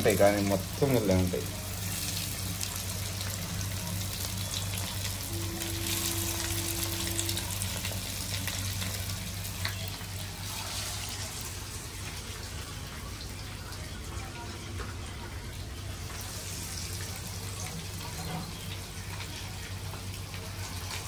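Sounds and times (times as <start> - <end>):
fish deep-frying in oil: 0.0 - 21.0.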